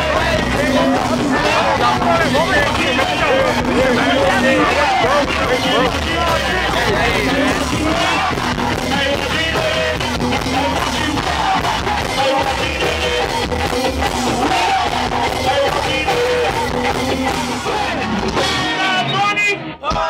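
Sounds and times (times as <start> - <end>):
go-go band music: 0.0 - 20.0.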